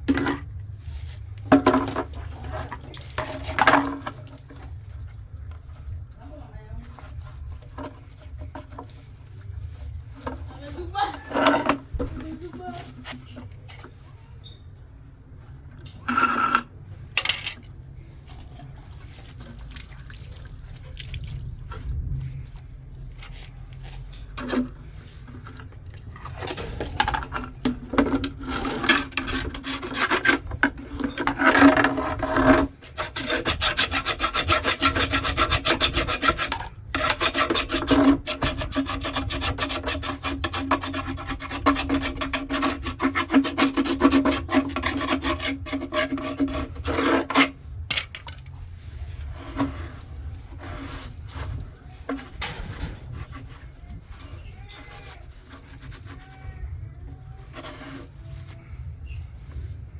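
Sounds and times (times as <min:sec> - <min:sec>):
dryer fan scraping as it spins: 0:00.0 - 0:19.6, 0:20.6 - 0:59.9.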